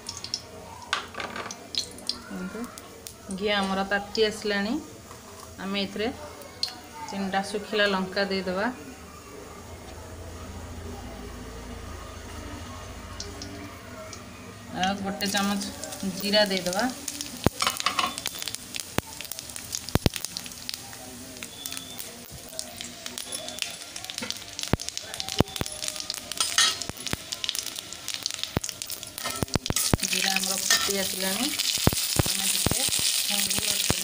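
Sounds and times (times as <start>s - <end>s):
seeds sizzling in hot oil: 0.0s - 8.2s, 13.0s - 34.0s.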